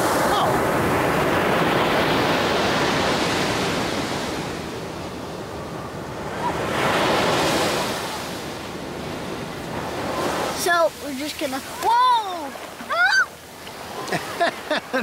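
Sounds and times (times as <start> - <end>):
ocean waves washing up beach: 0.0 - 15.0.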